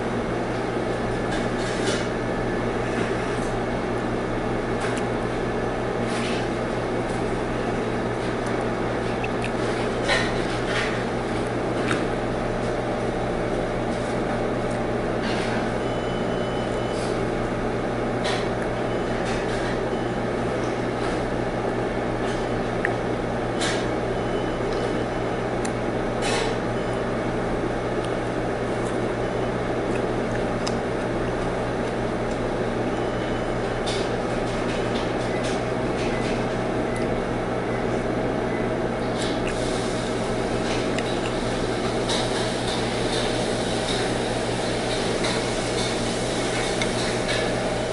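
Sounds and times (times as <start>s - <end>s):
ventilation equipment humming: 0.0s - 47.9s.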